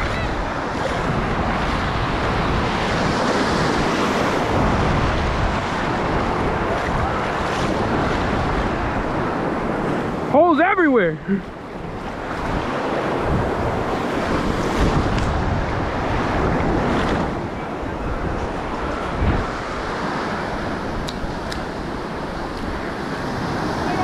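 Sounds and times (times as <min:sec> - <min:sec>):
surf washing on beach: 0:00.0 - 0:24.0
wind buffeting microphone: 0:00.0 - 0:24.0.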